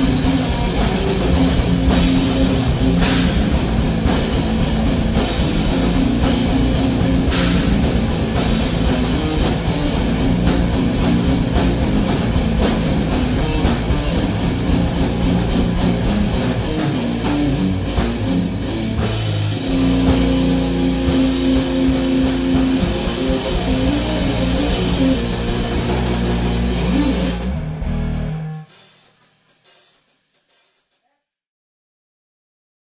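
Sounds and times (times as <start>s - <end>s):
electric guitar: 0.0s - 28.9s
drum kit: 0.0s - 31.0s.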